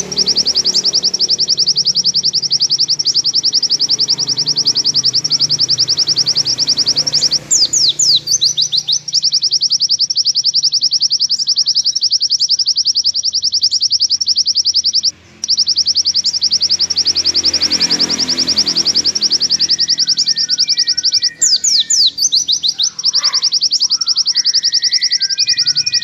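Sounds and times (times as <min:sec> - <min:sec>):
bird down-slurred whistles: 0:00.0 - 0:26.0
bird trilling: 0:00.0 - 0:26.0.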